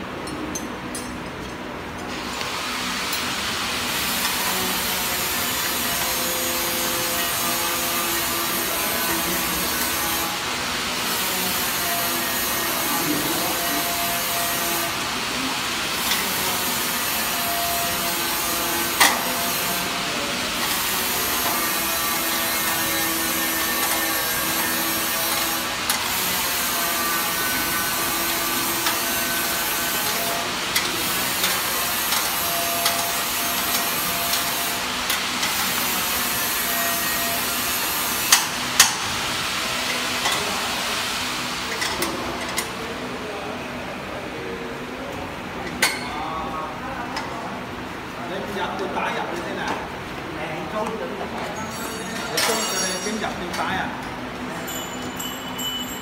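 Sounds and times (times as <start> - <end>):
machine hum and hiss: 0.0 - 56.0.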